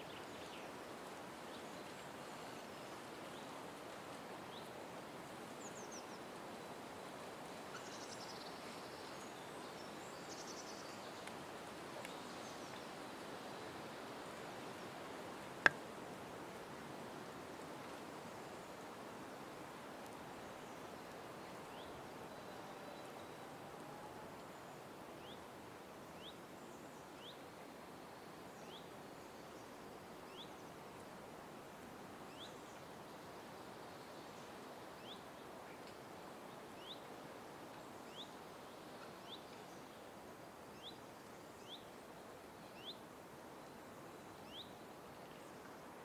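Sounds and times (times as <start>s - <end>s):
outdoor background hiss: 0.0s - 46.0s.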